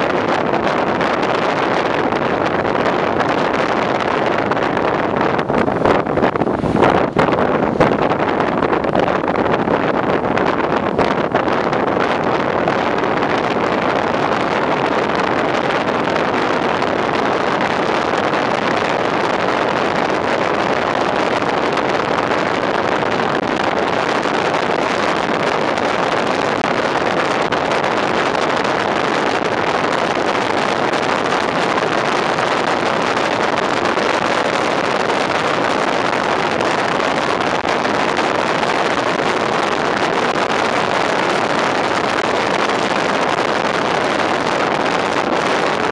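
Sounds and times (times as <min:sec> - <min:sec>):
road noise: 0:00.0 - 0:45.9
wind rushing on microphone: 0:00.0 - 0:45.9.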